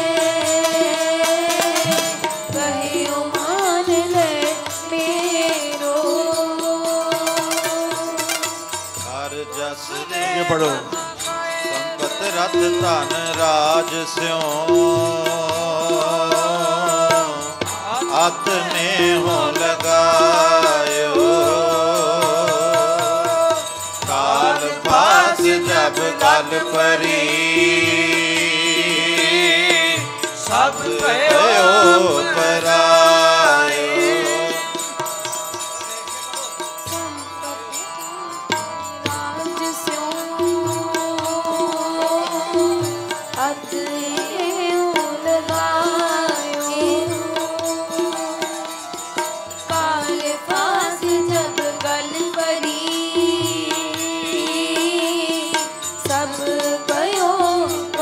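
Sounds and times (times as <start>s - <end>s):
harmonium held notes: 0.0s - 58.0s
tabla strokes: 0.0s - 58.0s.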